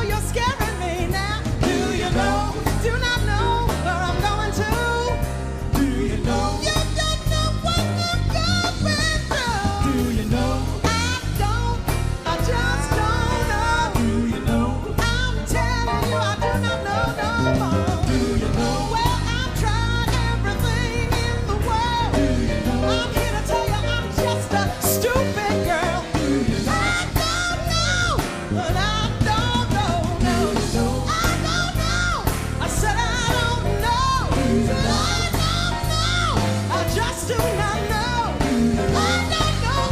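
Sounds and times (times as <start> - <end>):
jazz band with bass and drums: 0.0 - 39.9.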